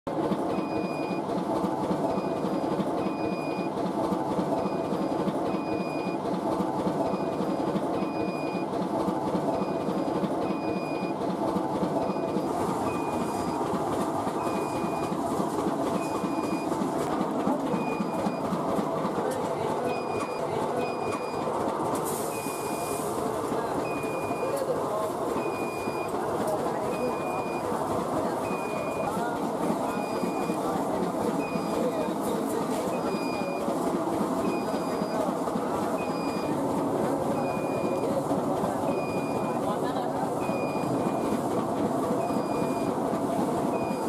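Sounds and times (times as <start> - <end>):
machine rattling rumble: 0.1 - 44.0.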